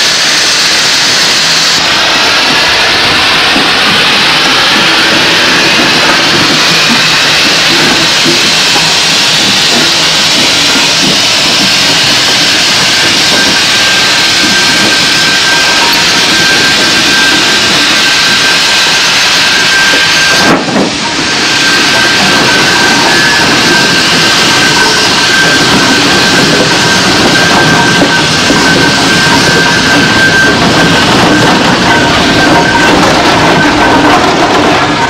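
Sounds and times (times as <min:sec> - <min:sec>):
locomotive and wagons rumbling: 0:00.0 - 0:35.0
steam hissing: 0:00.0 - 0:35.0.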